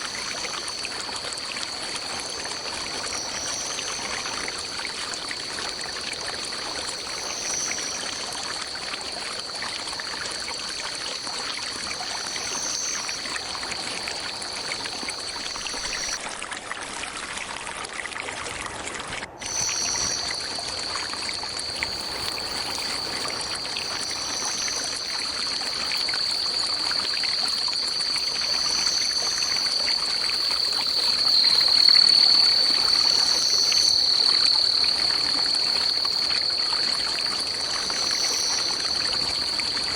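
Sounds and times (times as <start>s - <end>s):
insects droning: 0.0s - 16.2s, 19.3s - 39.9s
pulsing high insect calls: 0.0s - 16.2s, 19.4s - 39.9s
stream water flowing: 0.0s - 39.9s.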